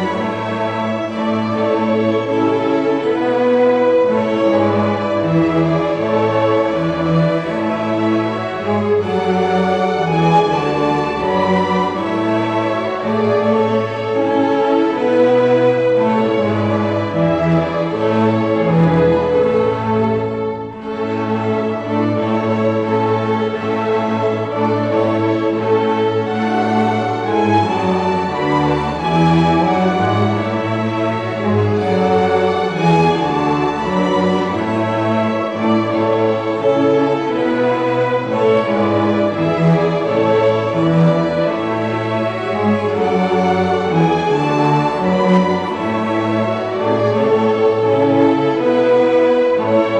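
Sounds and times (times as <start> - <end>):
string orchestra playing long notes: 0.0 - 49.9.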